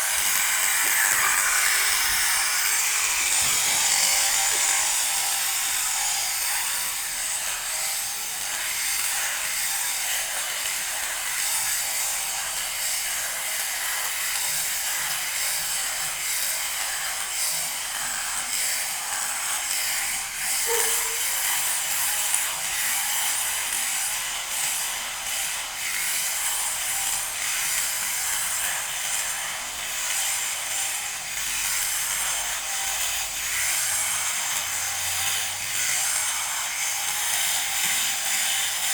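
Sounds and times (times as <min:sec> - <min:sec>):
electric shearing machine buzzing: 0:00.0 - 0:38.9.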